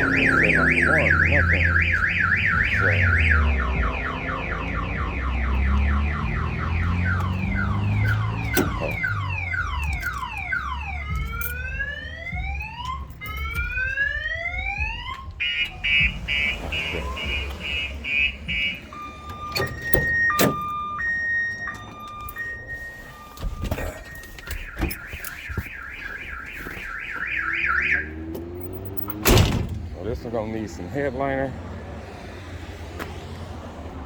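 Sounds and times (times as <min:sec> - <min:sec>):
car alarm siren: 0:00.0 - 0:29.7.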